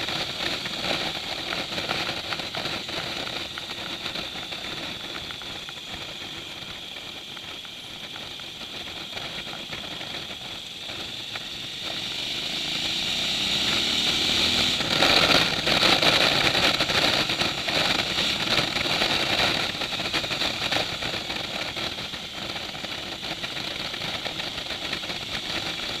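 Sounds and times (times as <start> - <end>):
motorcycle engine running: 0.0 - 26.0
wind noise while riding: 0.0 - 26.0.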